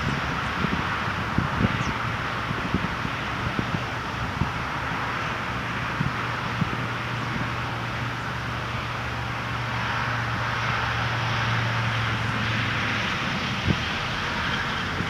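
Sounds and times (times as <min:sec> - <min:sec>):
distant traffic: 0:00.0 - 0:15.0
low engine hum: 0:00.0 - 0:15.0
wind: 0:00.0 - 0:15.0.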